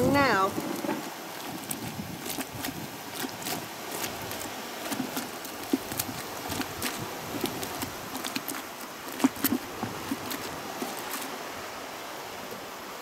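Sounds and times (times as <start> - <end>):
plunger splashing in bucket of water: 0.6 - 11.3.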